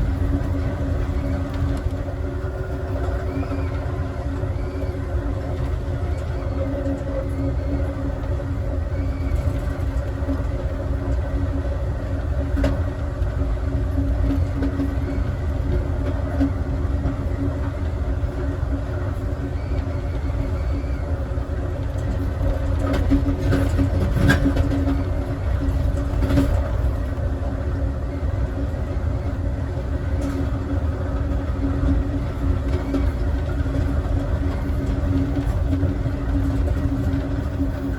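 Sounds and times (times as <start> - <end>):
train rumble inside car: 0.0 - 37.9.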